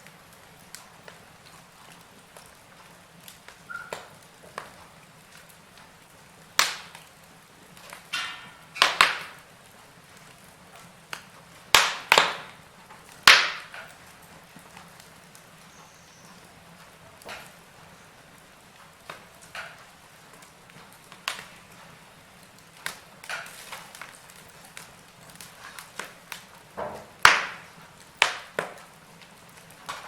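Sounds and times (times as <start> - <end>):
faint steady hiss: 0.0 - 30.0
wood fire crackling and popping: 0.0 - 30.0.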